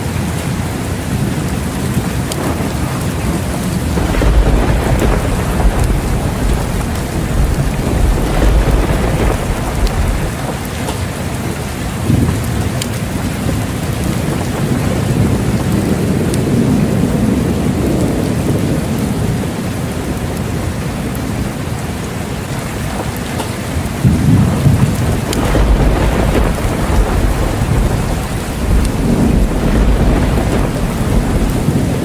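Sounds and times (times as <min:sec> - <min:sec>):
heavy rain: 0:00.0 - 0:32.0
thunder rumbling: 0:00.0 - 0:32.0.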